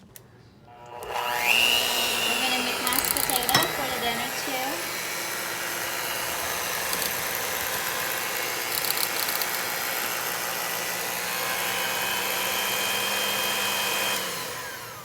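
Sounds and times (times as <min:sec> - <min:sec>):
electric mixer motor running: 0:00.7 - 0:15.0.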